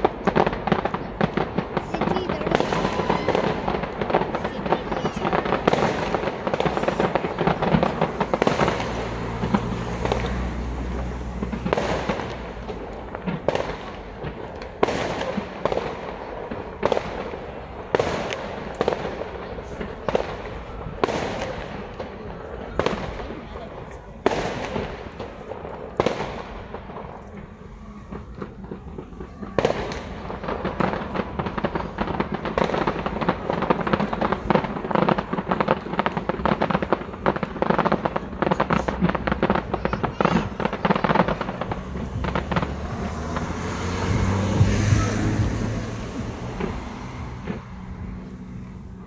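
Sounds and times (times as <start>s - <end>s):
firework bangs: 0.0s - 49.0s
rapid firework bursts and crackles: 0.0s - 49.0s.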